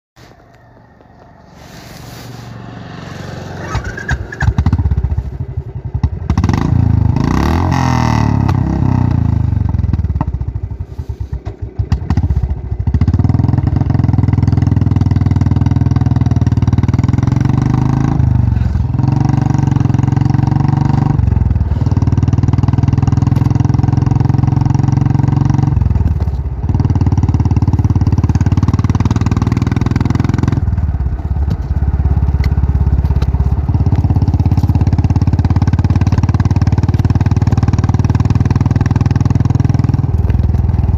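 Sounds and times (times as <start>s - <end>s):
motorcycle engine revving: 1.1s - 40.9s.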